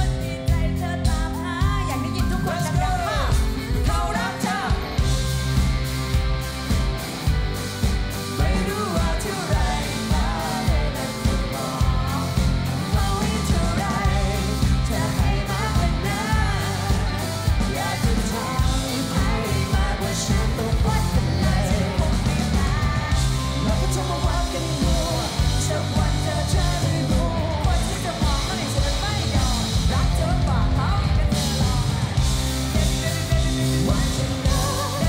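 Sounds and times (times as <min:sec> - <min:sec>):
bass guitar: 0:00.0 - 0:35.0
drum kit: 0:00.0 - 0:35.0
electric guitar: 0:00.0 - 0:35.0
person singing: 0:00.0 - 0:35.0.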